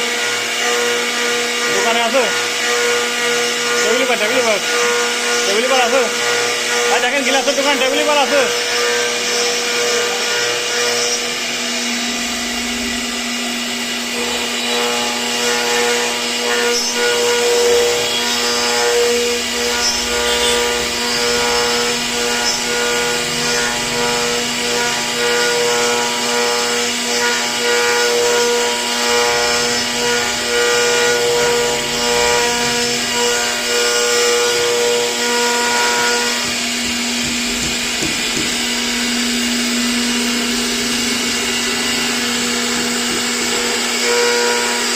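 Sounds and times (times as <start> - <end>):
cnc router spindle whine: 0.0 - 44.9.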